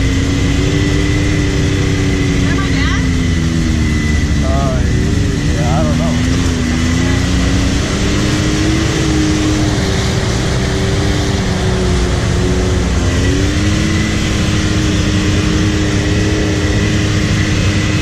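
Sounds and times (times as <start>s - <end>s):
drivetrain and tyre rumble: 0.0s - 18.0s
faint high whine: 0.0s - 18.0s
vehicle engine revving: 0.0s - 18.0s.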